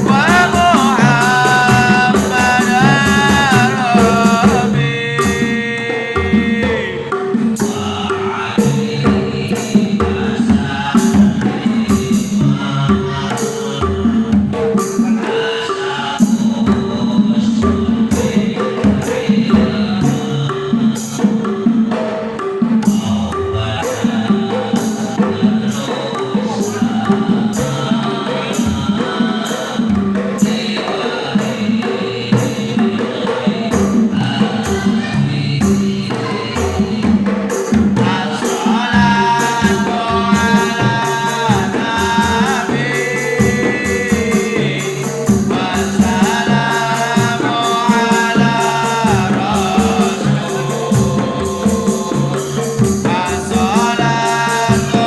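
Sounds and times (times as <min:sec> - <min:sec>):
devotional singing: 0:00.0 - 0:55.0
frame drums and tambourine: 0:00.0 - 0:55.0.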